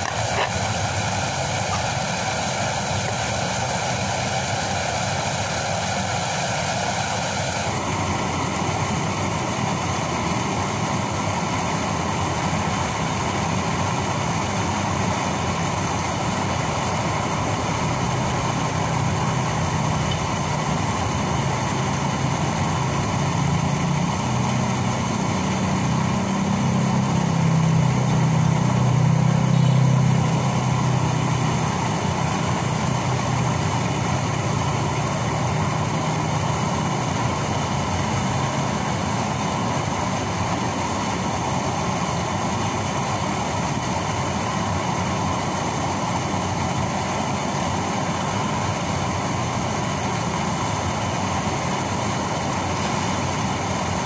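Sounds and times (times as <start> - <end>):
low engine hum: 0.0 - 54.0
water rushing at a weir: 0.0 - 54.0.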